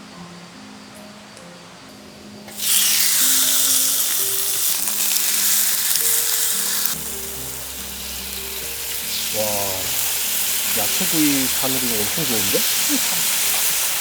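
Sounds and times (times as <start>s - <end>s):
food sizzling on grill plate: 2.5s - 14.0s.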